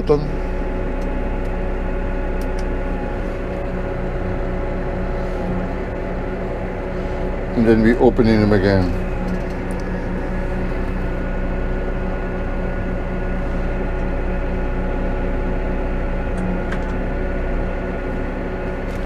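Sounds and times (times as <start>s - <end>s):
tractor diesel engine humming: 0.0s - 19.0s.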